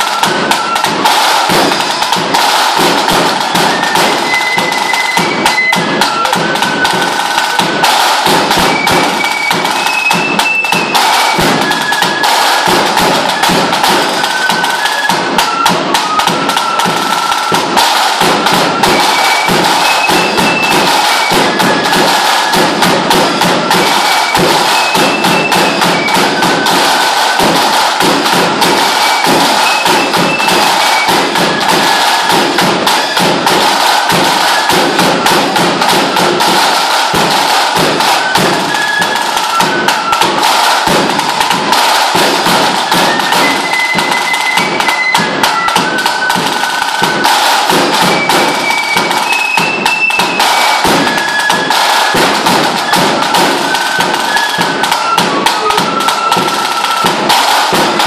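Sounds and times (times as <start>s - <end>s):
high piping tune: 0.0s - 57.6s
large drum beaten with canes: 0.0s - 58.0s.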